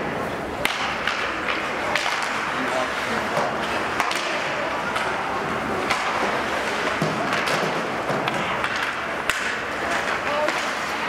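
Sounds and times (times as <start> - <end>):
sticks clacking on puck: 0.6 - 11.0
skates scraping ice: 0.8 - 11.0.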